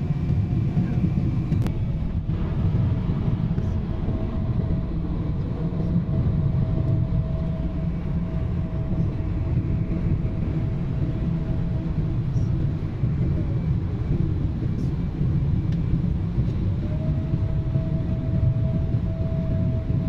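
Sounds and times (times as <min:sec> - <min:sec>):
airliner engines and rushing air: 0:00.0 - 0:20.0
faint steady whine: 0:00.0 - 0:20.0.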